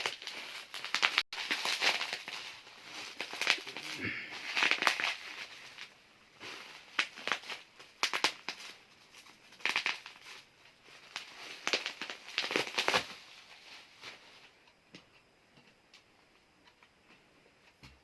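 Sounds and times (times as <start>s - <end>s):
plastic wrapping crinkling: 0.0s - 14.5s.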